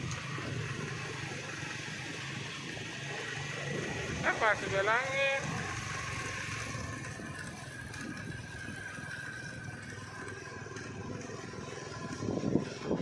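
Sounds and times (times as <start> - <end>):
truck engines labouring: 0.0 - 13.0.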